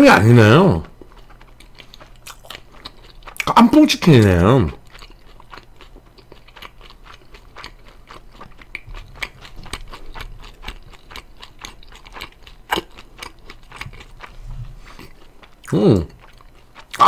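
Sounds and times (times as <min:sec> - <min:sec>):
chewing crispy fried chicken: 0:00.2 - 0:17.0.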